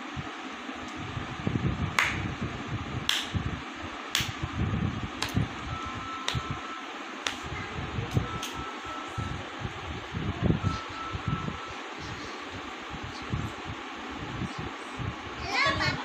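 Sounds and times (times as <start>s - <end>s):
electric fan hissing: 0.0s - 16.0s.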